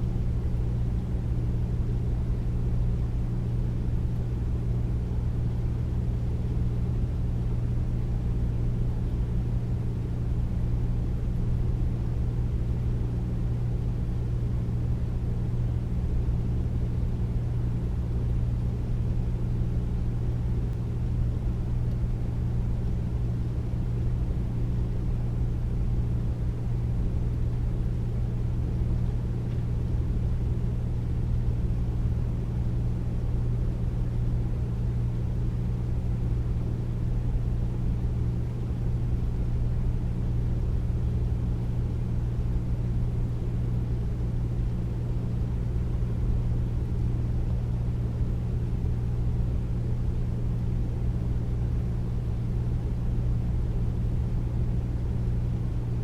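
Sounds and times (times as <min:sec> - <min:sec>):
air conditioner humming: 0:00.0 - 0:56.0.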